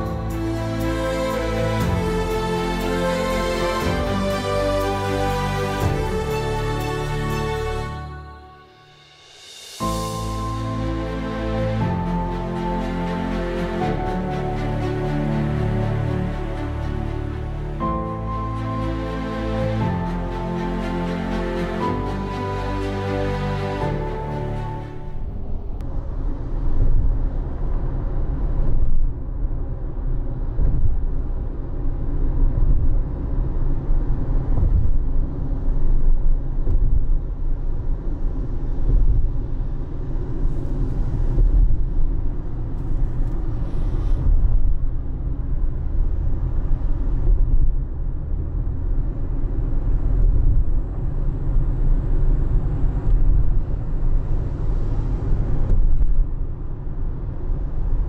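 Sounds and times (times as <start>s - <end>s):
car engine and road rumble: 9.4s - 58.0s.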